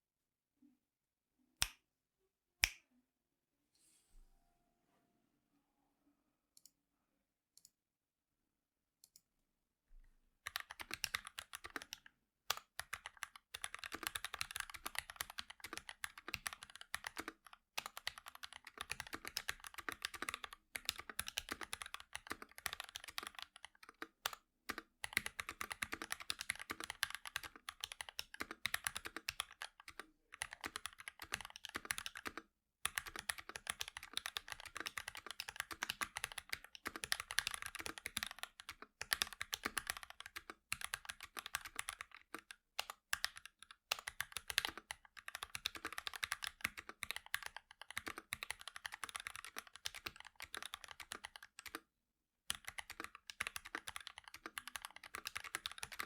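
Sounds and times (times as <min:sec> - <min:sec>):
mechanical keyboard typing: 0:10.4 - 0:51.8, 0:52.5 - 0:56.0.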